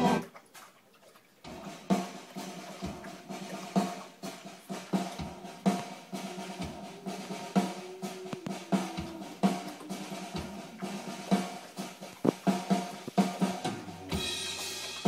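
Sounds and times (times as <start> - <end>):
bass drum: 1.5 - 15.0
snare drum hits: 1.5 - 15.0.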